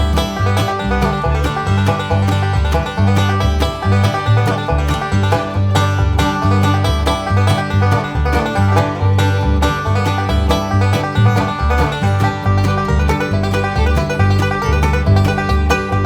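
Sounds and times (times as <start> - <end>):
upbeat bluegrass tune: 0.0 - 16.0.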